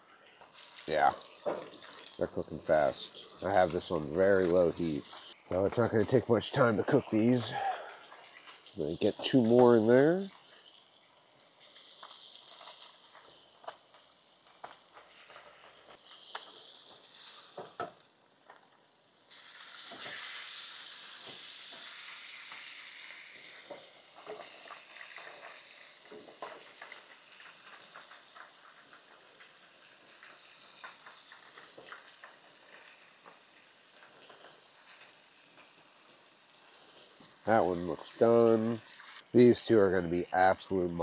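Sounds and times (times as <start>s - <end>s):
food sizzling and popping in oil: 0.0s - 41.0s.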